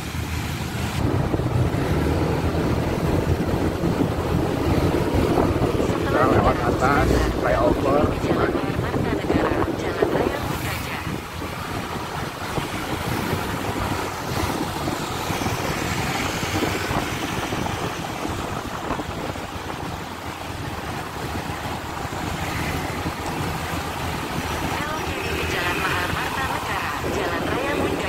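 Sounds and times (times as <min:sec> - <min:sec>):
motorcycle traffic: 0:00.0 - 0:28.0
wind buffeting microphone: 0:00.0 - 0:28.0.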